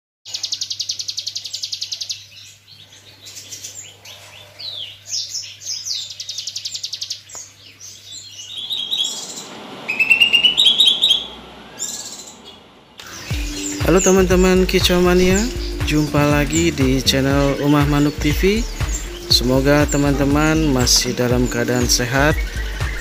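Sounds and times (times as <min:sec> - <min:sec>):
bird buzzy trill and chirps: 0:00.3 - 0:23.0.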